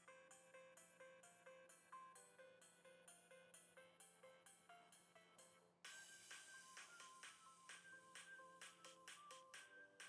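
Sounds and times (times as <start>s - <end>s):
faint music of ringing notes: 0.0s - 10.0s.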